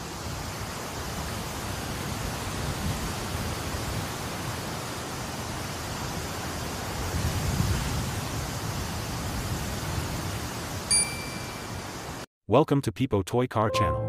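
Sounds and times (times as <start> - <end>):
rushing hiss of moving air: 0.0 - 12.2.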